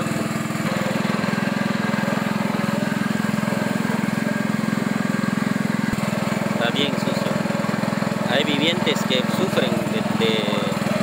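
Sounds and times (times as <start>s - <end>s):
motorboat engine chugging: 0.0s - 11.0s.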